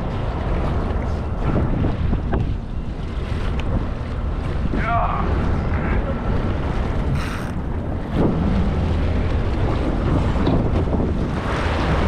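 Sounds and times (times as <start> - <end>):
steady low rumble: 0.0 - 12.0
water sloshing against a hull: 0.0 - 12.0
wind buffeting the microphone: 0.0 - 12.0.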